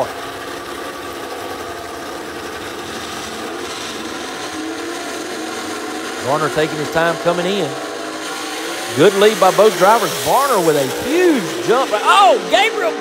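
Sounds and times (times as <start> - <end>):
drag racing engines idling: 0.0 - 13.0.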